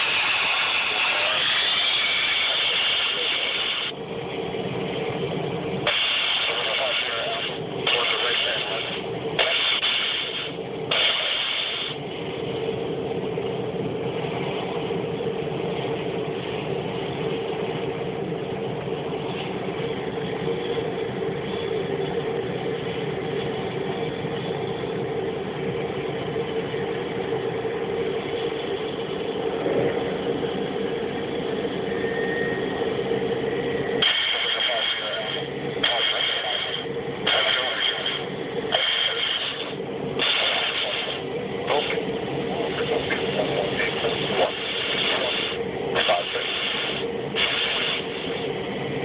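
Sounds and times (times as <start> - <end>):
turboprop engine idling: 0.0 - 49.0.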